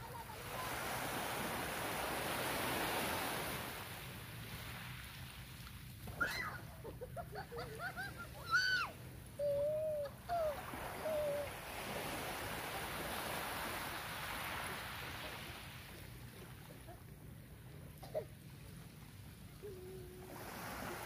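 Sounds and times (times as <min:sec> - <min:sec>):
wave washing up sandy beach: 0:00.0 - 0:16.9, 0:18.6 - 0:21.0.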